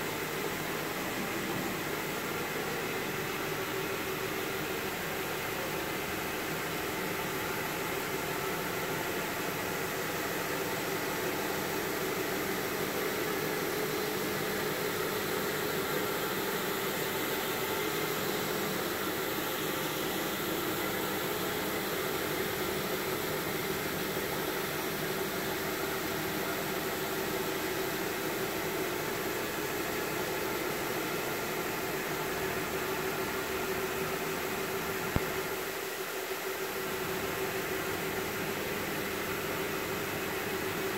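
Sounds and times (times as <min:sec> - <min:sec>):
carpet brush machine humming: 0:00.0 - 0:40.9.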